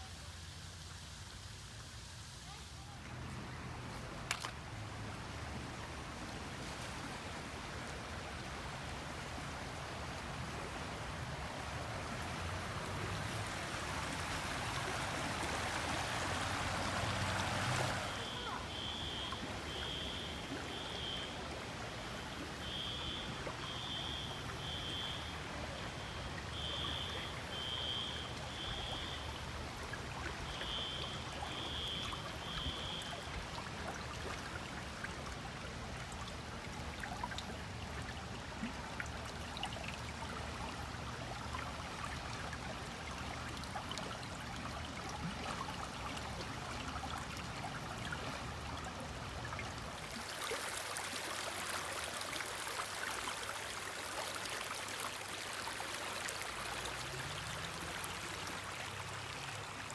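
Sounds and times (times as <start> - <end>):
stream trickling and gurgling: 0.0 - 59.9.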